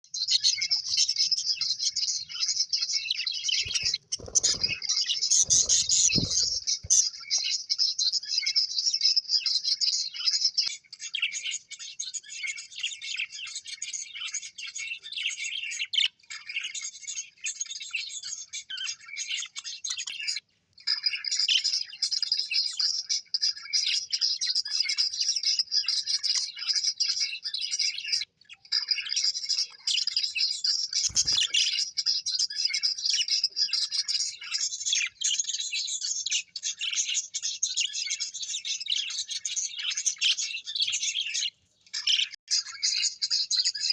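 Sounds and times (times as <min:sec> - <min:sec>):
parrots chirping and warbling: 0:00.2 - 0:23.0, 0:23.6 - 0:43.9.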